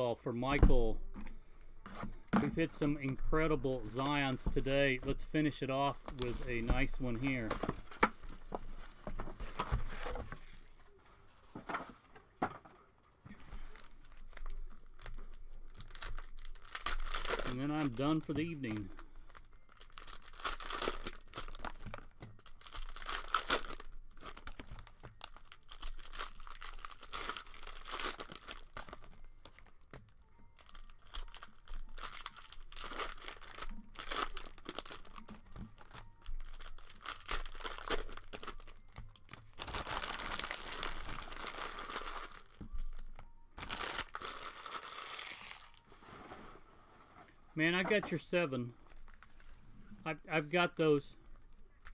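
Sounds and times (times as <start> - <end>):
plastic wrappers tearing and crinkling: 2.6 - 11.0, 13.3 - 46.2, 48.8 - 49.6.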